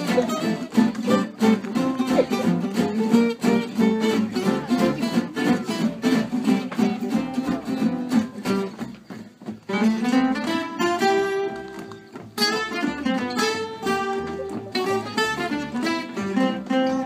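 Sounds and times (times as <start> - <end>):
acoustic guitars playing: 0.0 - 17.0
double bass: 0.0 - 17.0.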